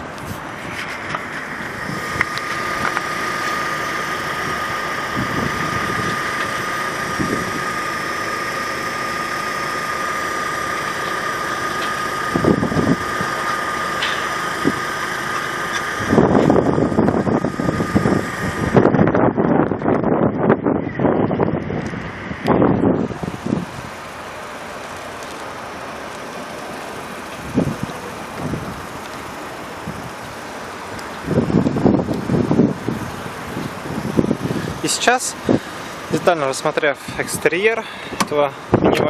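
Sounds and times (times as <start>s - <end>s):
car engine idling: 0.0s - 19.9s, 21.0s - 39.0s
high whine: 0.0s - 39.0s
wind buffeting microphone: 0.0s - 39.0s.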